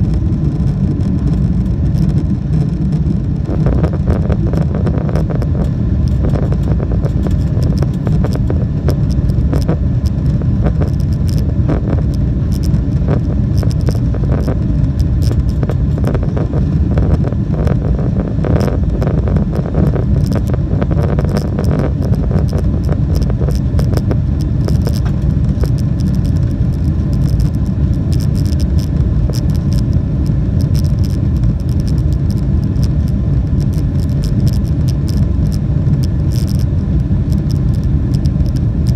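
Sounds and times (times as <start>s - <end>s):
jet engines rumbling from cabin: 0.0s - 38.9s.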